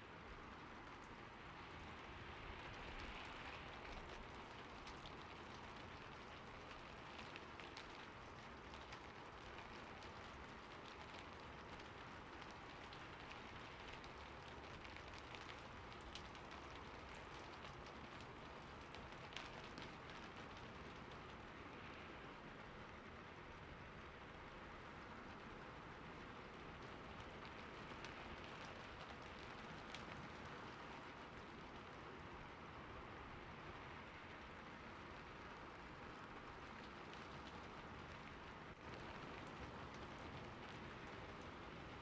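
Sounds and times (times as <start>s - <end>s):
rain falling on a roof: 0.0s - 42.0s.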